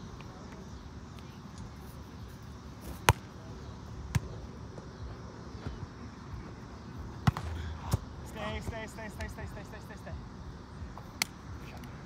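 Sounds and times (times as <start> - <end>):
gym background hum: 0.0 - 12.0.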